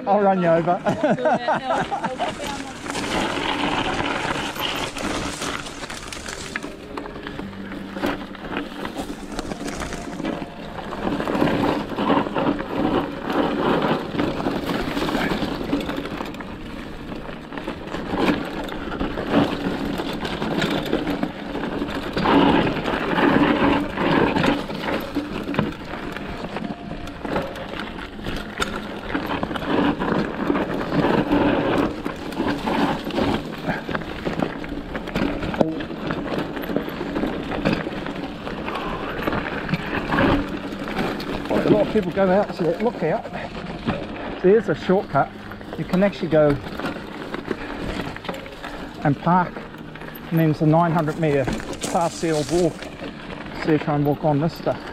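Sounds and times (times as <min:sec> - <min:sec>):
bike rattling and clattering: 0:00.0 - 0:54.9
tyres crunching over gravel: 0:00.0 - 0:54.9.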